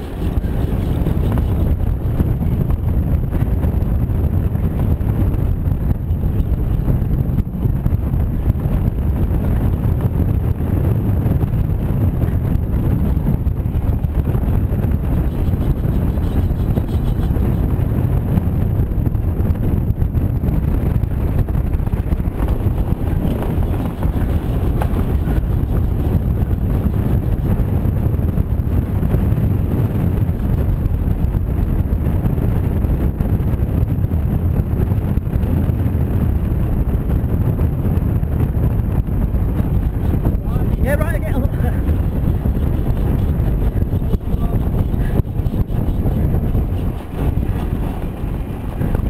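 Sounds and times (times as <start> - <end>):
wheels rumbling on tarmac: 0.0 - 49.0
wind buffeting microphone: 0.0 - 49.0.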